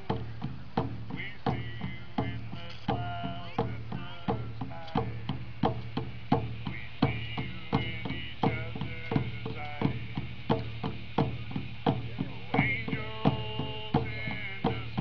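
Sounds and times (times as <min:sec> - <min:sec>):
faint singing: 0:00.0 - 0:05.7, 0:06.5 - 0:15.0
hand drums beaten: 0:00.0 - 0:15.0.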